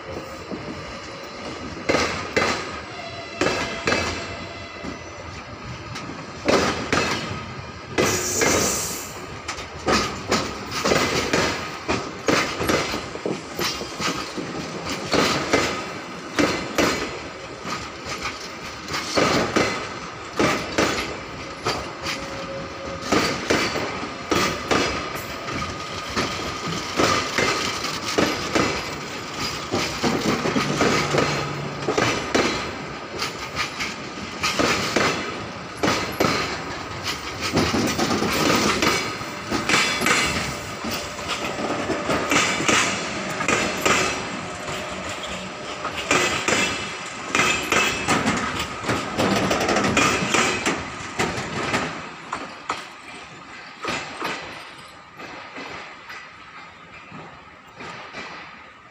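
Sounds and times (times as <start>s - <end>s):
train wheels clacking over rail joints: 0.0s - 58.9s.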